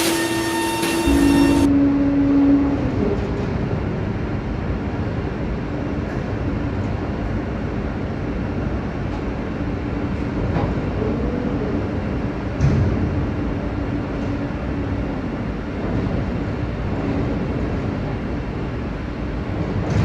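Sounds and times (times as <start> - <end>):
heavy factory machinery rumble: 0.0 - 20.0.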